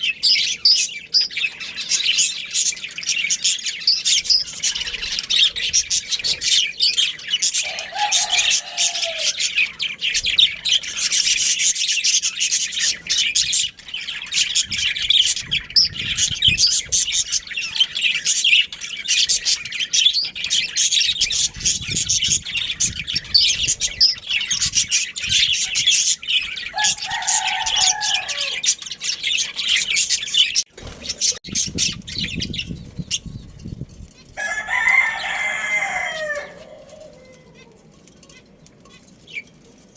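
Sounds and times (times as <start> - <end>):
budgerigars chirping: 0.0 - 33.4.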